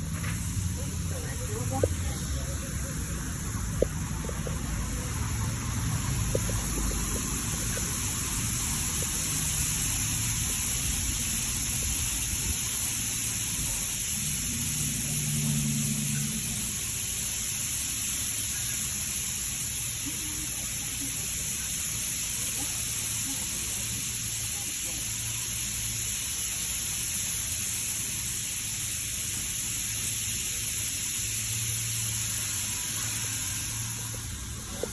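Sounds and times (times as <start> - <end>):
rumble of pumps and machinery: 0.0 - 34.9
water jets spraying car: 0.0 - 34.9.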